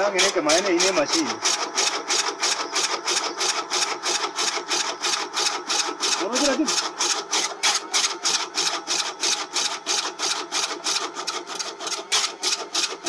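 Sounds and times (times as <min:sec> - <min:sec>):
spinning blade chopping greens: 0:00.0 - 0:13.0.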